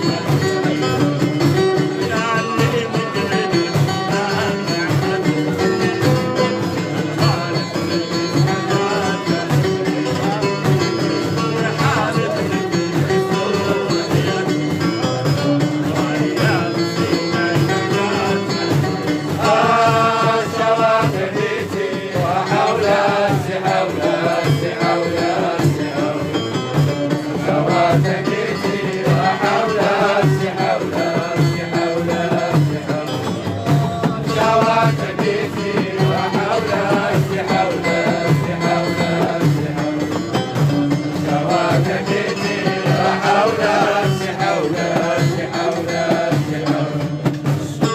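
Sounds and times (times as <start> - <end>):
accompanying folk instruments: 0.0 - 47.9
hand percussion beat: 0.0 - 47.9.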